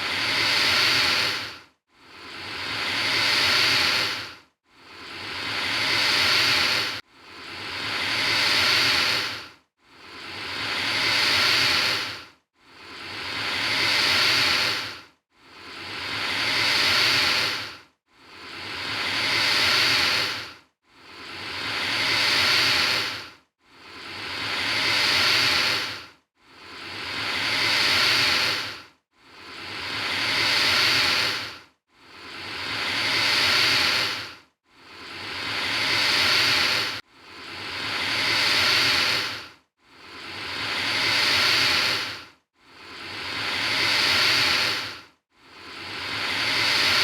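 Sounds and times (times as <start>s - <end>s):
alligator hissing: 0.0s - 1.5s, 2.2s - 4.3s, 5.0s - 7.0s, 7.6s - 9.4s, 10.1s - 15.0s, 15.7s - 23.2s, 24.0s - 26.0s, 26.7s - 28.8s, 29.4s - 31.6s, 32.3s - 34.3s, 34.9s - 39.4s, 40.1s - 45.0s, 45.7s - 47.0s.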